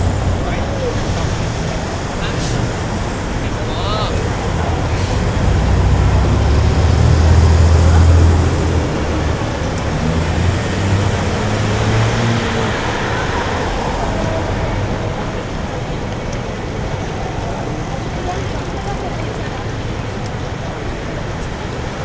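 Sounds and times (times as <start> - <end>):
low traffic rumble: 0.0 - 22.0
passing vehicle engines: 0.0 - 22.0.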